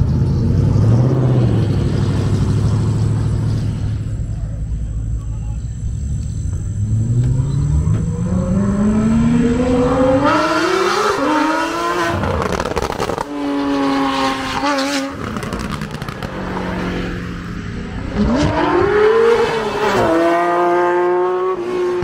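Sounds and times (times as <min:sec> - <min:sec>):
car engine accelerating hard: 0:00.0 - 0:04.8, 0:05.8 - 0:22.0.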